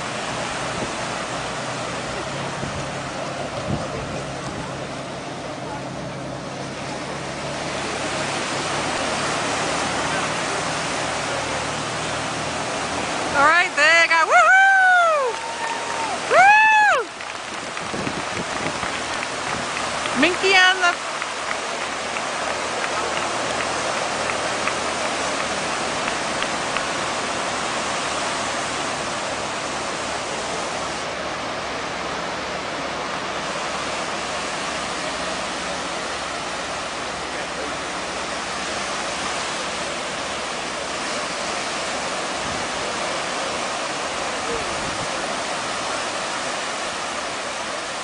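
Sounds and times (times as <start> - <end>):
small waves breaking on beach: 0.0 - 48.0.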